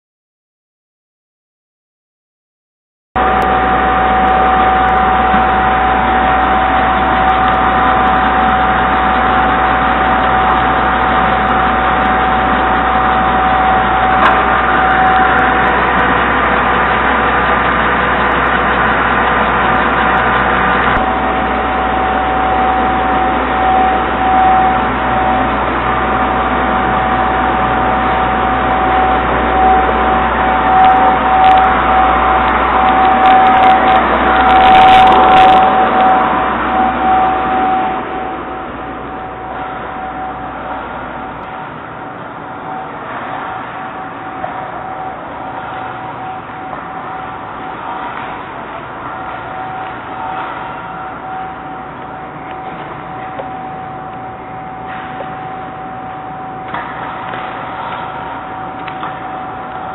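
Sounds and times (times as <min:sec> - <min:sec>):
concrete pump droning with whine: 0:03.2 - 0:59.9.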